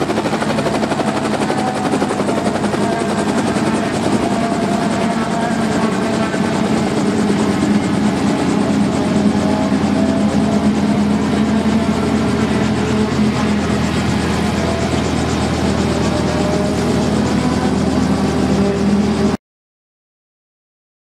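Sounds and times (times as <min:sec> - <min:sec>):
helicopter engine and rotors: 0:00.0 - 0:19.4.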